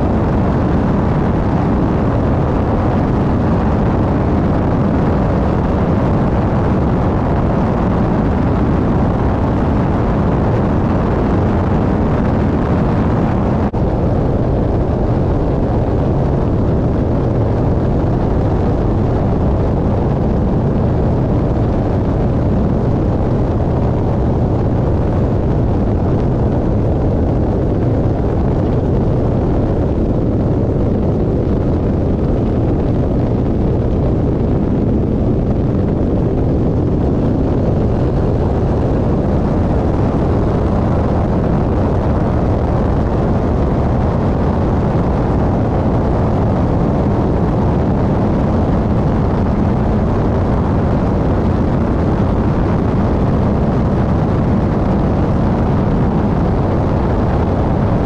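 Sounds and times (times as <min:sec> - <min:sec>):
airplane engine and propeller: 0:00.0 - 0:58.0
wind rushing over microphone: 0:00.0 - 0:58.0.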